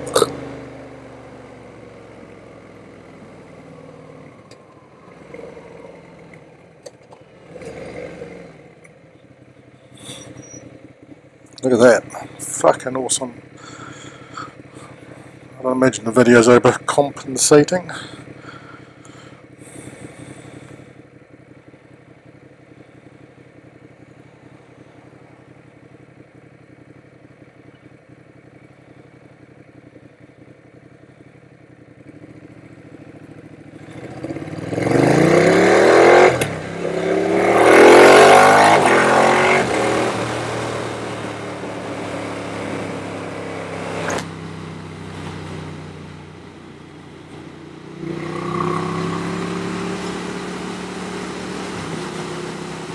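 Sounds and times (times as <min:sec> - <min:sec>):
motorcycle engine idling: 0:00.0 - 0:35.2, 0:40.2 - 0:52.9
motorcycle accelerating through gears: 0:00.0 - 0:52.9.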